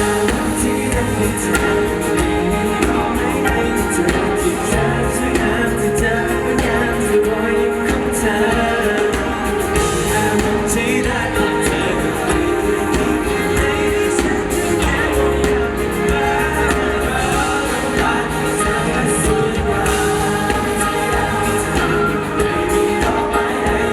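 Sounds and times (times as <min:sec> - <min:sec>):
pop song with singing: 0:00.0 - 0:23.9.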